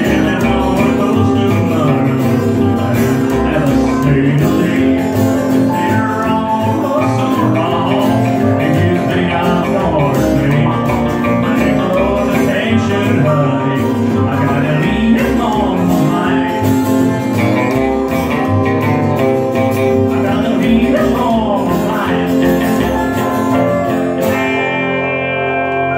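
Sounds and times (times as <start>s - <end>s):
electric lead guitar: 0.0s - 25.9s
steel guitar: 0.0s - 25.9s
strummed acoustic guitar: 0.0s - 25.9s
upright bass: 0.0s - 25.9s.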